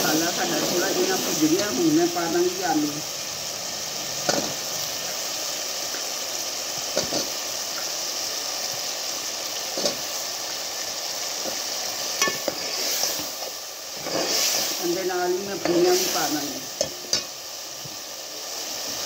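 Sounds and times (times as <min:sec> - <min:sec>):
masala sizzling in oil: 0:00.0 - 0:19.0.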